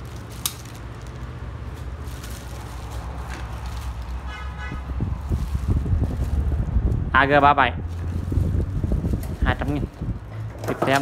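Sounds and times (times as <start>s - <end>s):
low background rumble: 0.0s - 10.6s.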